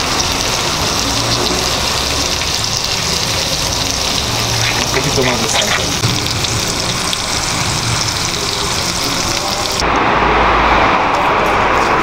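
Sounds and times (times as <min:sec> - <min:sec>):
steak sizzling in a pan: 0:00.0 - 0:09.8.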